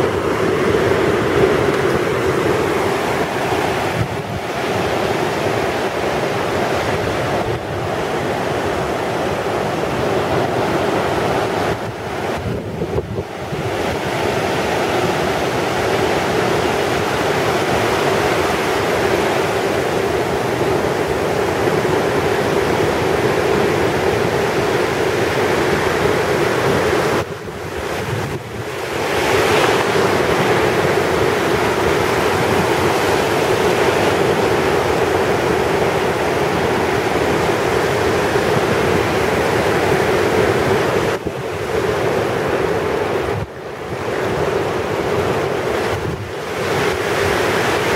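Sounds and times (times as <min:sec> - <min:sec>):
surf washing over beach: 0:00.0 - 0:47.9
wind buffeting microphone: 0:00.0 - 0:47.9.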